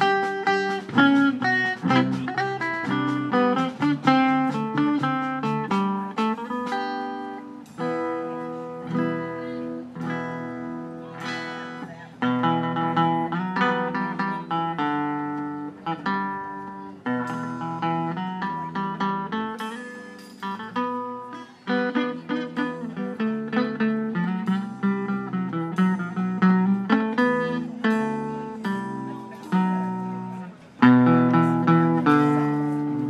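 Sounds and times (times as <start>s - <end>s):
plucked upright bass: 0.0s - 6.6s, 7.8s - 19.8s, 20.5s - 33.0s
drums: 0.0s - 33.0s
guitar picking melody: 0.0s - 33.0s.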